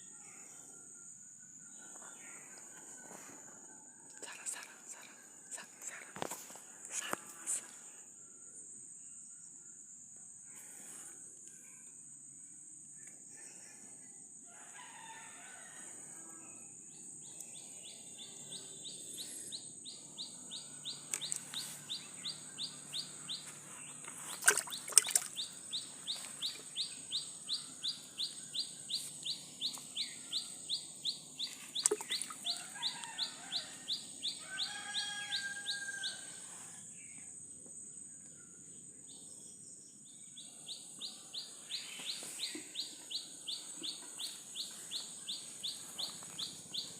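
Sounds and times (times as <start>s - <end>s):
high insect whine: 0.0s - 46.9s.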